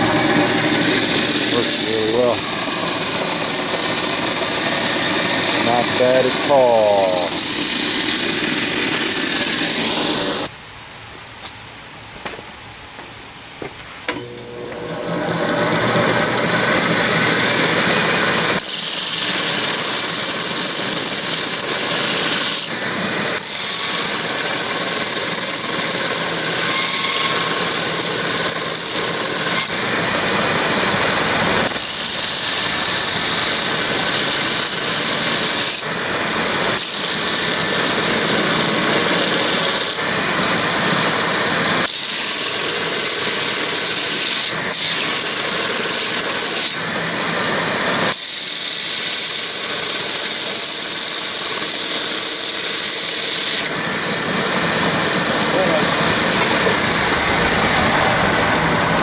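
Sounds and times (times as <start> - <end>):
belt grinder running: 0.0 - 10.5, 14.1 - 59.0
metal grinding on belt: 0.0 - 10.5, 14.2 - 59.0.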